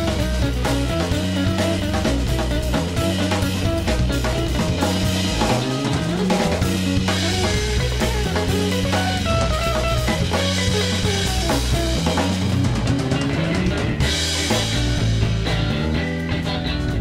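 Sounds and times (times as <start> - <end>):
drum kit beat with cymbals: 0.0 - 17.0
electric guitar melody: 0.0 - 17.0
low bass line: 0.0 - 17.0.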